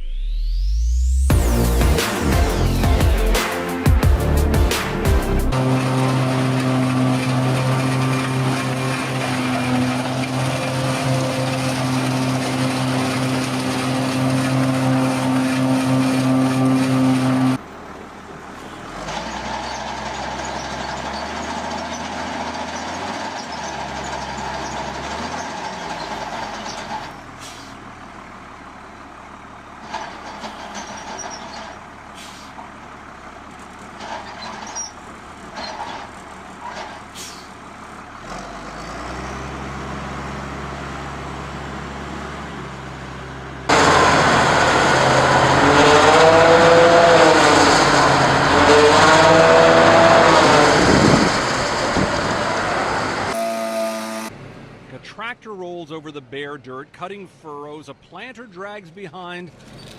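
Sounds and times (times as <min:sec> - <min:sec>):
heavy machinery engines running: 0:01.0 - 0:55.9.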